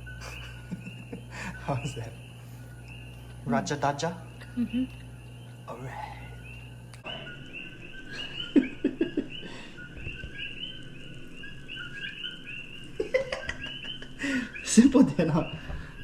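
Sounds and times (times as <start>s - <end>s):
chorus of high chirping calls: 0.0s - 16.0s.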